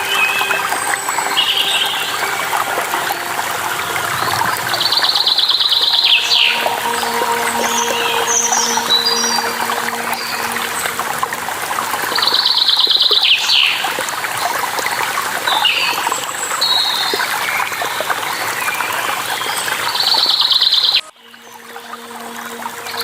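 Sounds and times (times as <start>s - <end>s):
waterfall running: 0.0s - 20.3s.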